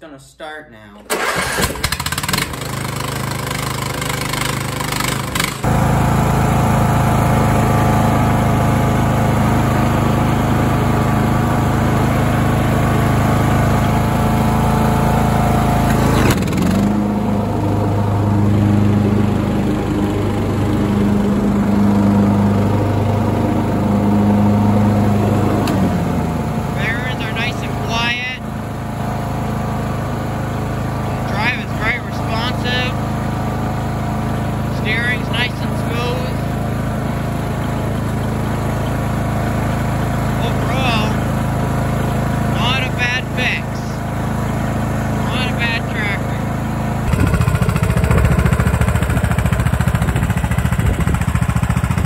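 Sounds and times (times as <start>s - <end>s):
riding mower engine starting: 1.0s - 52.0s.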